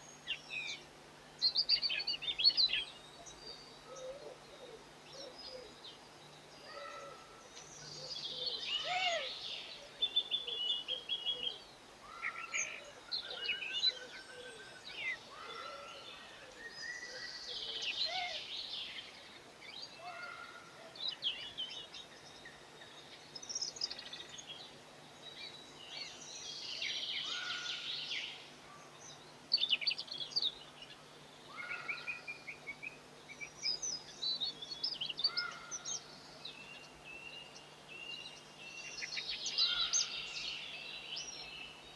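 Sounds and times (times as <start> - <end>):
small songbirds chirping: 0.0 - 41.9.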